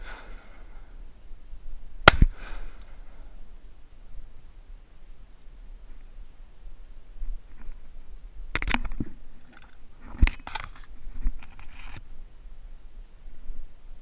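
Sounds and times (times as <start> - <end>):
rustles: 0.0 - 14.0.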